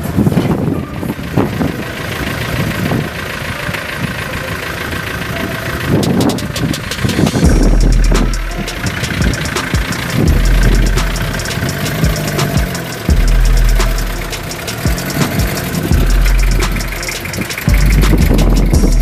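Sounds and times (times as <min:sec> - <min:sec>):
off-road vehicle engines rumbling: 0:00.0 - 0:19.0.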